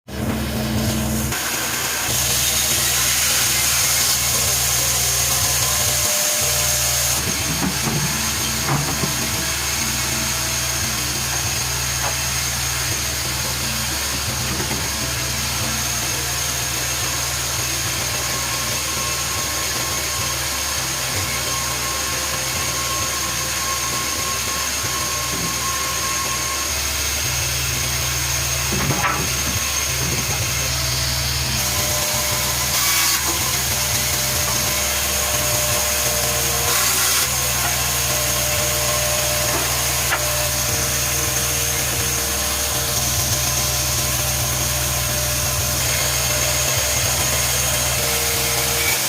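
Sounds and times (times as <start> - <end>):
woodworking power tool whining: 0.1 - 49.0.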